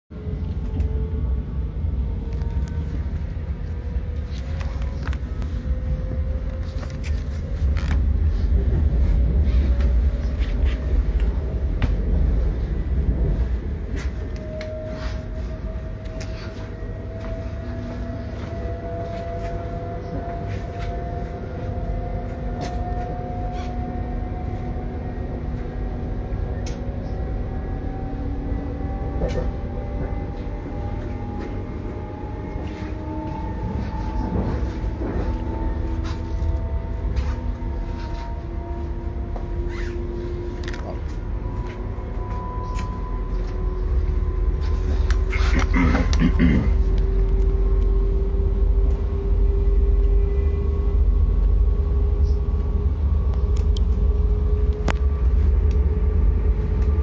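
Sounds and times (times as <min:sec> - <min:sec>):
train rumbling inside carriage: 0:00.1 - 0:57.0
faint rising whine: 0:00.2 - 0:46.0.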